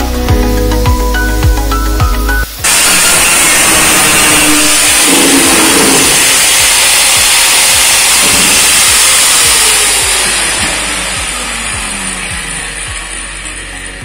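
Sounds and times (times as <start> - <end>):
power tool grinding steel: 2.5 - 14.0.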